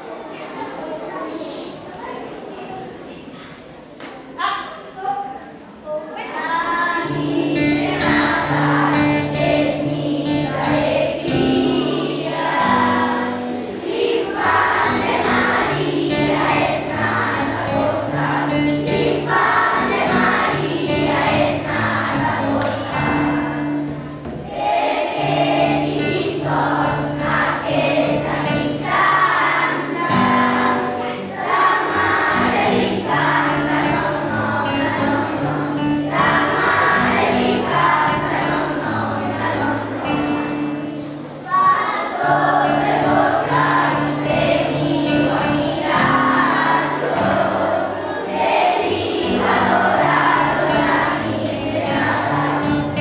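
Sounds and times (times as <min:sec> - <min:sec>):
children's choir singing: 0:00.0 - 0:03.8, 0:05.5 - 0:53.0
acoustic guitar low notes: 0:07.0 - 0:53.0.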